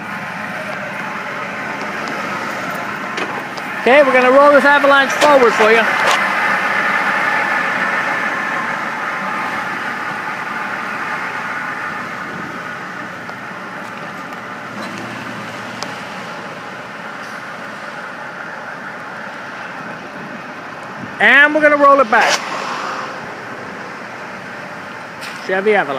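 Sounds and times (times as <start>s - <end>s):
pickup truck engine driving off: 0.0s - 21.1s.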